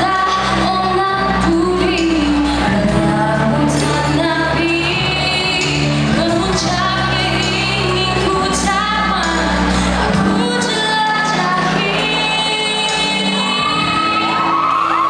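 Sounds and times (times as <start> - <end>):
woman singing: 0.0 - 14.6.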